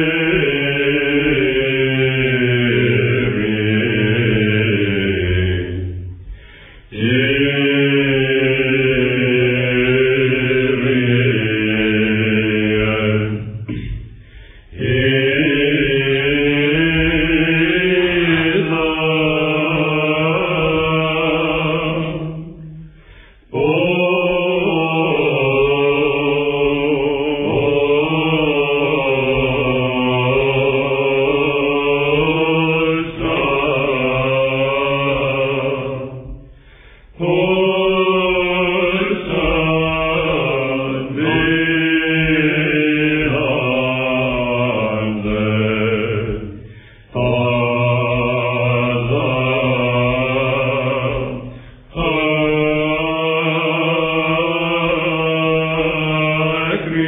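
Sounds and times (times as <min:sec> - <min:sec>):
low held vocal drone: 0:00.0 - 0:57.0
male voices chanting: 0:06.9 - 0:22.8, 0:23.5 - 0:36.5, 0:37.1 - 0:57.0.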